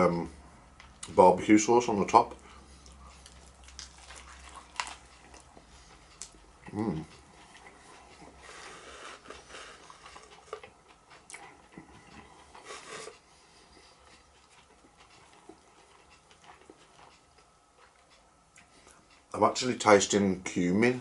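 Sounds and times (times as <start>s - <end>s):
close-up chewing with crunches: 2.3s - 19.3s.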